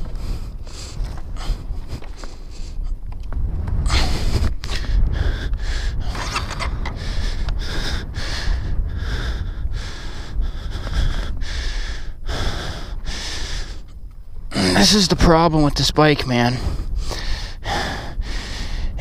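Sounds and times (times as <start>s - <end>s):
man panting heavily: 0.0s - 3.0s, 3.8s - 13.9s, 16.6s - 19.0s
low rumble: 0.0s - 15.9s.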